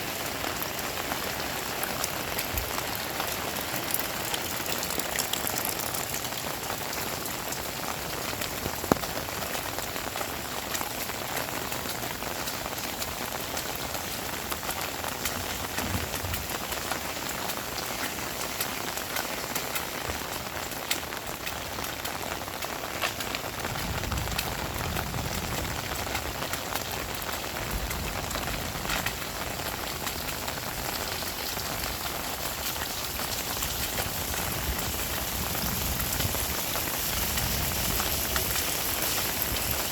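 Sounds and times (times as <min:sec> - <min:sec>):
heavy rain falling: 0:00.0 - 0:39.9
rain drop hits: 0:00.0 - 0:39.9.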